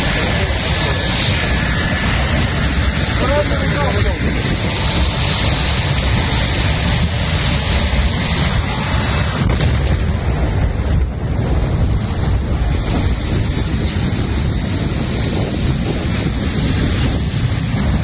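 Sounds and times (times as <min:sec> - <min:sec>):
loud rushing rumble: 0:00.0 - 0:18.0.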